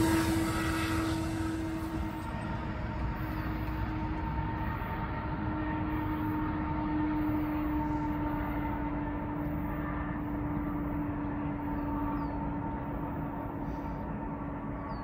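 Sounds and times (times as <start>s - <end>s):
constant hum: 0.0s - 15.0s
distant freight train drone: 0.0s - 15.0s.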